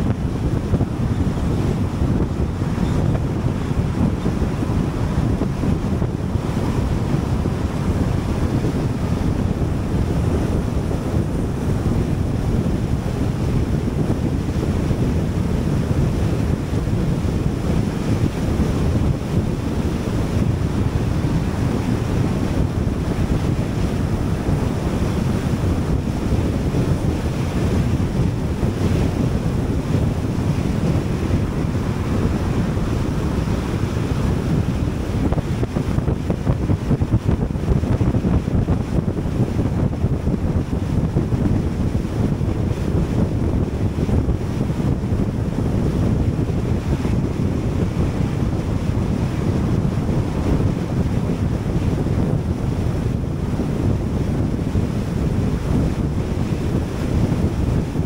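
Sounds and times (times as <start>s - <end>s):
tyre and wind noise: 0.0s - 58.0s.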